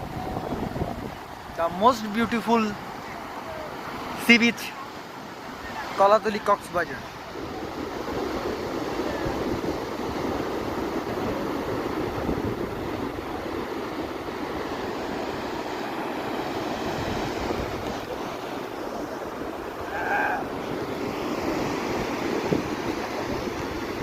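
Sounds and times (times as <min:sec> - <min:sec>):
surf washing onto beach: 0:00.0 - 0:24.0
wind: 0:00.0 - 0:24.0.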